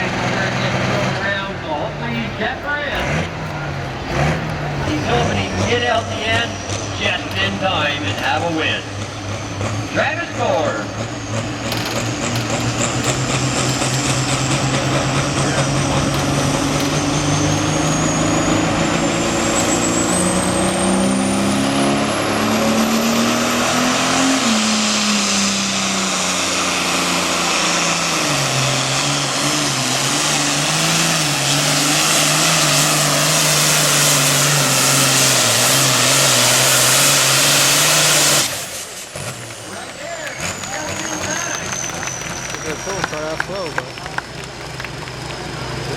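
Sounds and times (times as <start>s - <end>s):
high turbo whine: 0.0s - 45.9s
tractor diesel engine under load: 0.0s - 45.9s.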